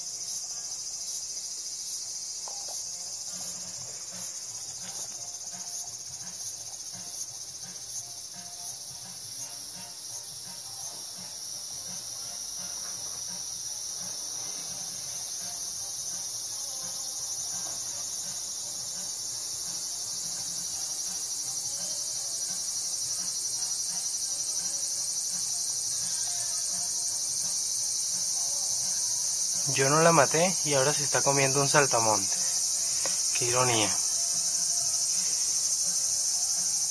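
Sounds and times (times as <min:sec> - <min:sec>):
insect buzzy chirping: 0:00.0 - 0:36.9.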